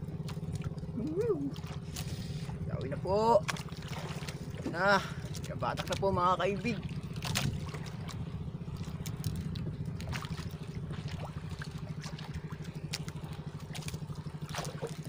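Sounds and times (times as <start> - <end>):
boat engine idling: 0.0 - 15.0
water trickling and lapping: 0.0 - 15.0.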